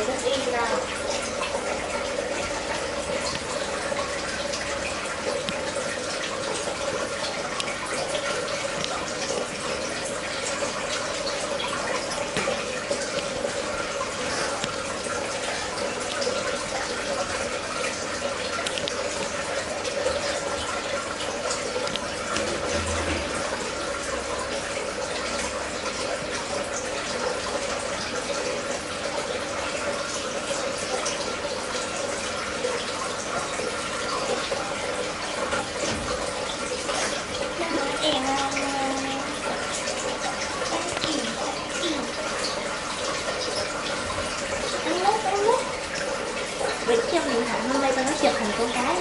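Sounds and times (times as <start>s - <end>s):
water trickling in aquarium: 0.0s - 49.0s.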